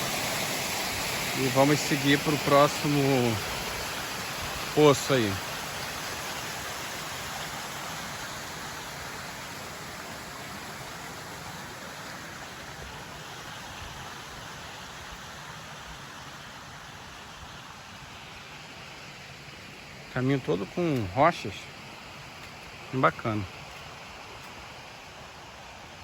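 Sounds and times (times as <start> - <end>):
rushing water cascades: 0.0 - 26.0.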